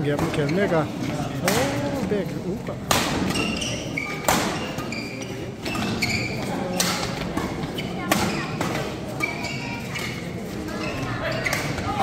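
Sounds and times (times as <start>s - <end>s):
shoes squeaking on court: 0.0s - 2.0s, 3.2s - 12.0s.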